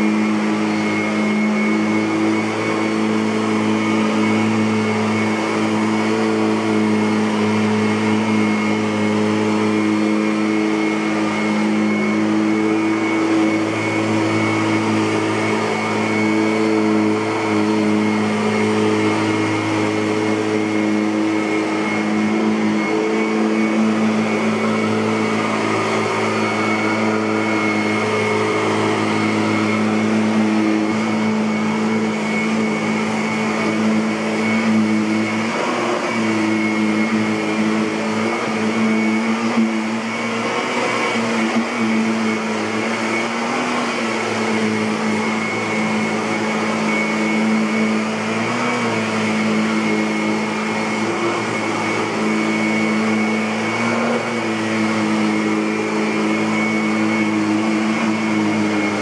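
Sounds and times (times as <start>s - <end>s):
upright vacuum cleaner running: 0.0s - 59.0s.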